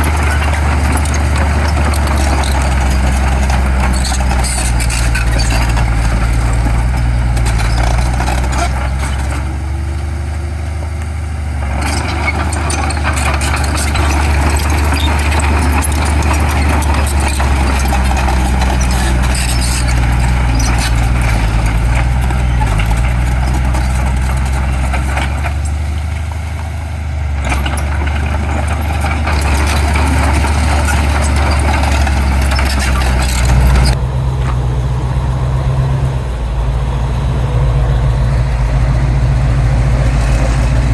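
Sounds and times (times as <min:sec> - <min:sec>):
heavy diesel engines rumbling: 0:00.0 - 0:40.9.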